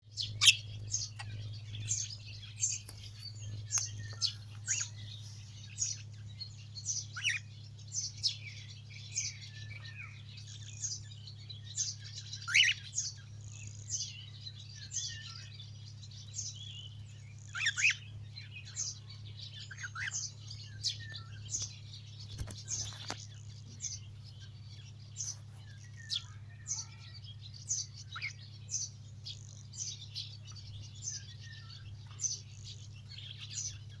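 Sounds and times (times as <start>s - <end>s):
pet birds chirping: 0.0s - 34.0s
steady low hum: 0.0s - 34.0s.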